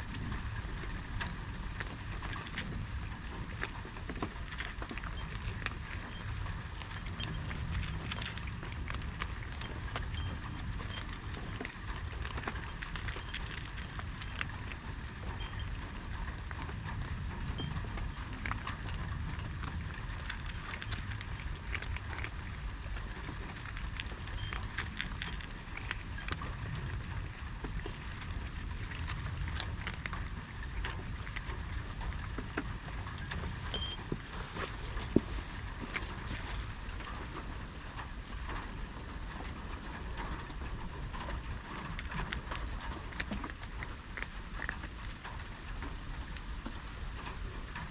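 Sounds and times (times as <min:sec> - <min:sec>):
low outdoor rumble: 0:00.0 - 0:47.9
small irregular clicks: 0:00.1 - 0:47.9.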